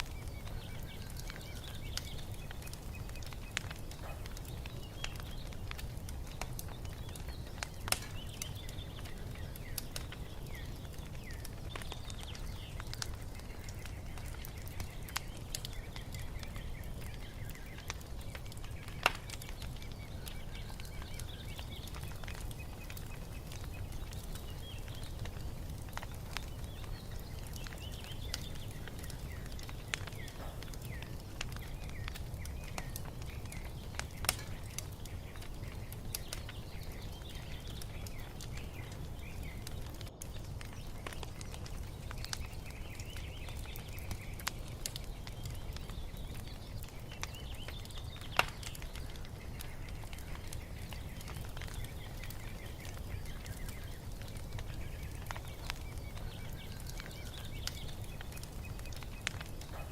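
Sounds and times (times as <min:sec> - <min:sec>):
small birds chirping: 0:00.0 - 0:59.9
wood fire crackling and popping: 0:00.0 - 0:59.9.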